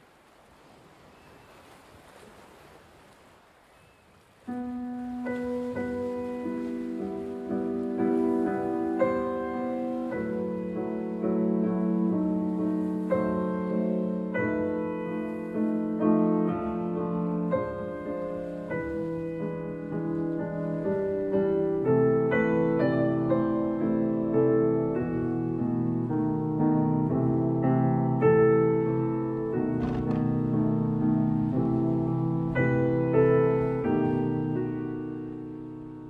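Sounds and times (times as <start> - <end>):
slow piano music: 3.8 - 36.0.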